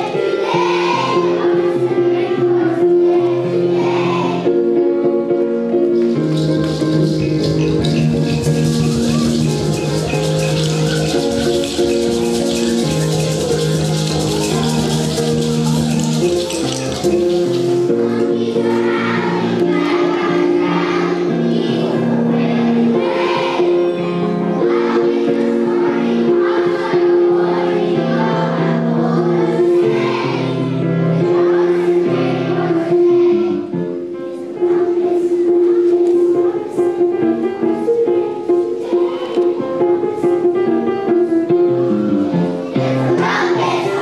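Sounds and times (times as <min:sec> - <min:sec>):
children's choir singing: 0:00.0 - 0:44.0
instrumental accompaniment: 0:00.0 - 0:44.0.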